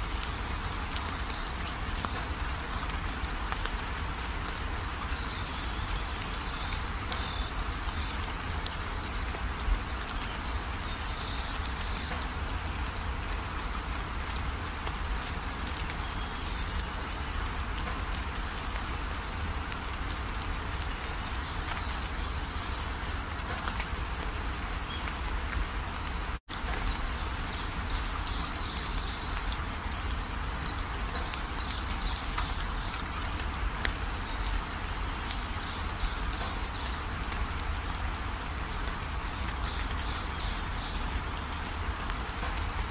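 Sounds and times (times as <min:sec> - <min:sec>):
steady hiss like rain: 0:00.0 - 0:42.9.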